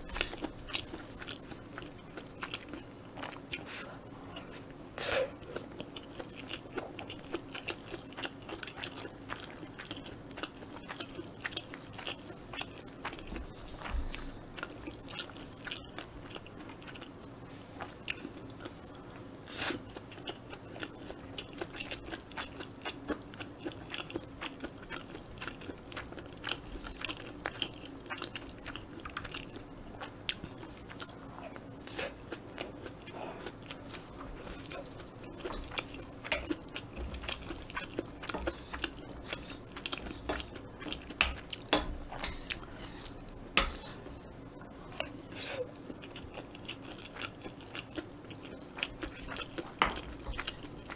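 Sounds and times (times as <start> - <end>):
close chewing: 0.0 - 43.8, 44.8 - 50.9.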